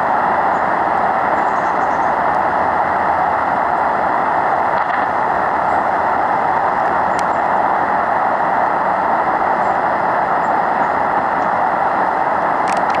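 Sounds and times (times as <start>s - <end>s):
shortwave radio static hiss: 0.0s - 13.0s.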